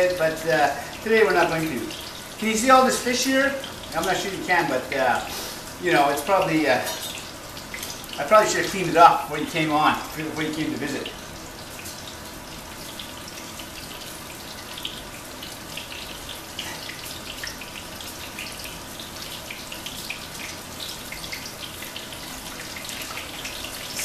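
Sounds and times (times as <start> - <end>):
fish frying in a pan: 0.0 - 24.0.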